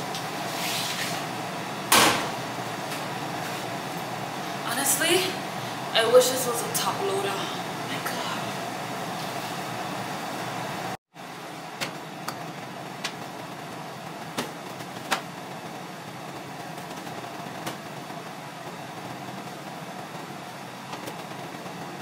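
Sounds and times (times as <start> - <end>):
laundry room mechanical hum: 0.0 - 22.0.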